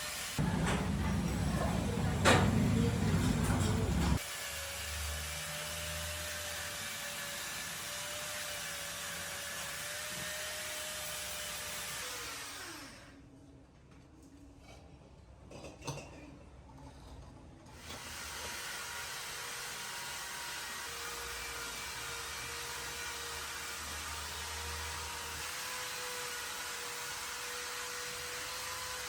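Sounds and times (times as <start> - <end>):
electric power tool whirring: 0.0 - 13.2, 17.8 - 29.0.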